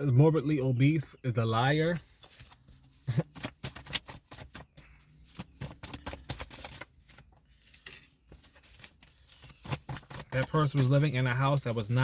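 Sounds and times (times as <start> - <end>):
deck of cards shuffling: 2.2 - 12.0.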